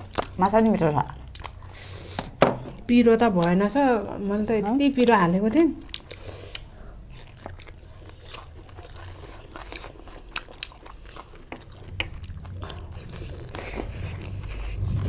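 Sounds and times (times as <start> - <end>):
chewing with crunches: 0.0 - 4.1, 4.8 - 15.0.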